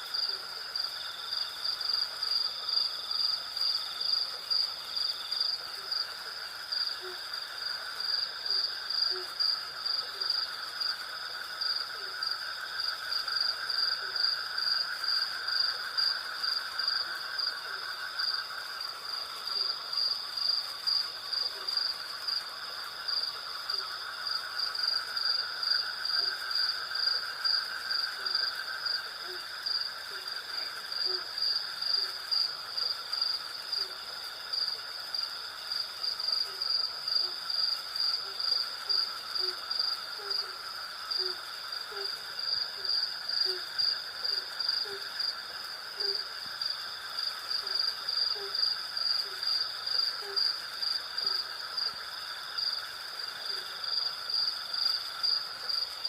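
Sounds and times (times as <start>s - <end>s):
crickets chirping: 0.0s - 56.0s
low insect drone: 0.0s - 56.0s.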